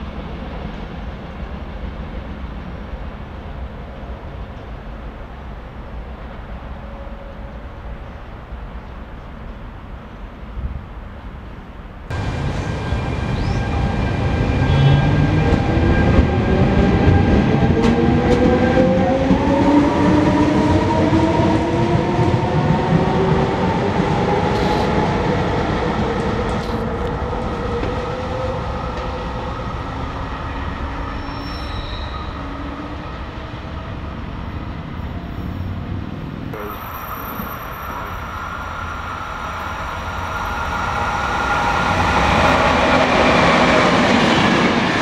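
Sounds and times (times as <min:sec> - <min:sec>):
train rumbling rolling noise: 0:00.0 - 0:45.0.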